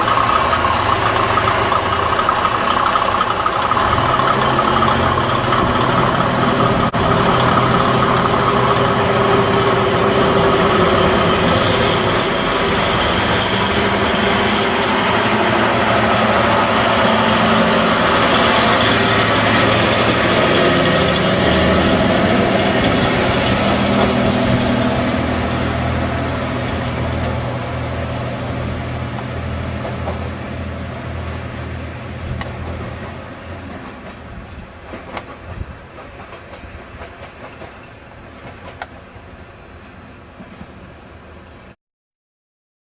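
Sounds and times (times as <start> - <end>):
railcar diesel engines running: 0.0 - 41.8.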